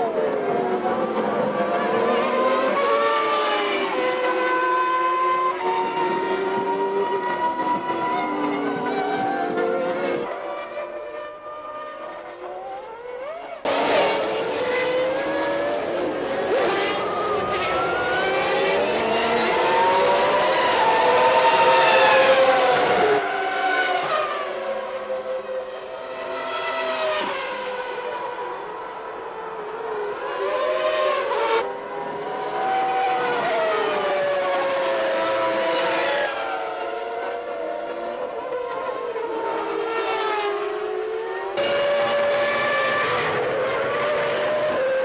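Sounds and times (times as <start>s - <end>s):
racing cars passing: 0.0s - 45.0s.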